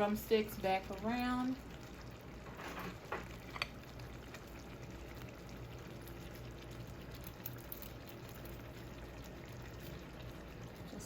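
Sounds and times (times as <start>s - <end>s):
simmering liquid: 0.0s - 11.0s.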